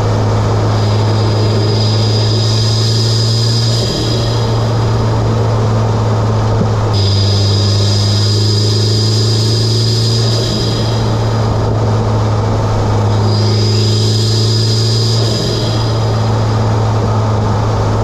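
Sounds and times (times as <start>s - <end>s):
car engine running: 0.0s - 18.0s
high steady whine: 0.0s - 18.0s.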